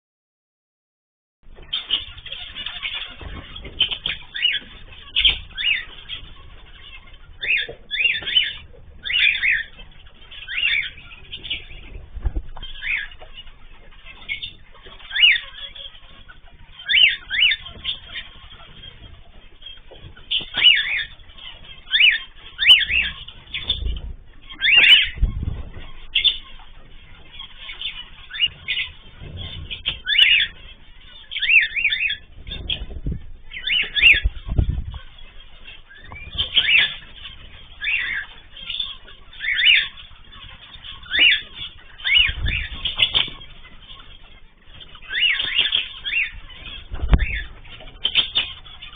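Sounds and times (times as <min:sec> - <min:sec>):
birds chirping and whistling: 0:01.5 - 0:48.9
wings fluttering: 0:01.5 - 0:48.9.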